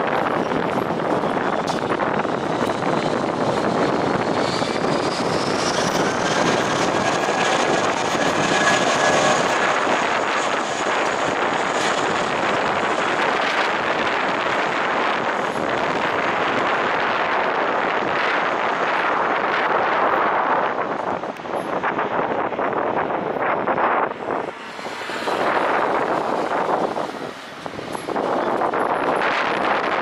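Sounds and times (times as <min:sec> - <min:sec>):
jet engine with high whine: 0:00.0 - 0:30.0.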